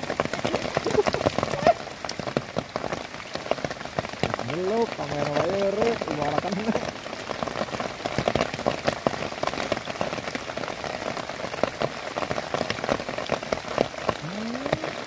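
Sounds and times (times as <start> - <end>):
rain hissing on water: 0.0 - 15.0
sharp raindrop hits: 0.0 - 15.0.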